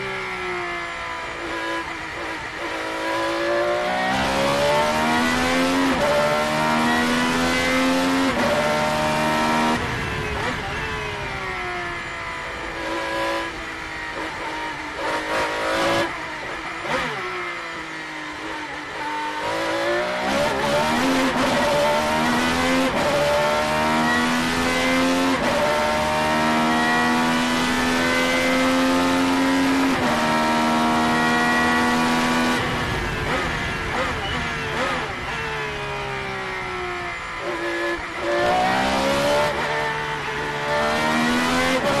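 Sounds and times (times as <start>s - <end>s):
racing engine revving and upshifting: 0.0s - 11.4s, 12.7s - 42.0s.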